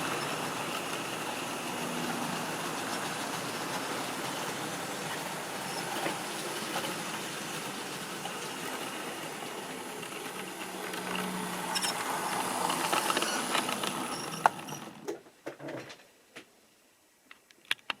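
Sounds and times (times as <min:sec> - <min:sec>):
model train whirring rattle: 0:00.0 - 0:15.1.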